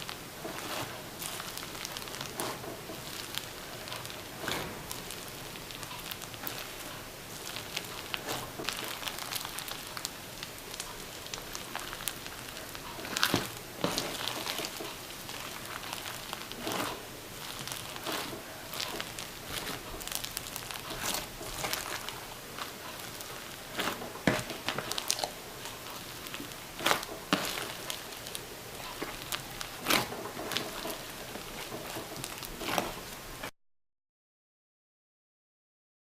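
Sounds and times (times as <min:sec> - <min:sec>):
slime crunching and crackling: 0:00.0 - 0:33.5.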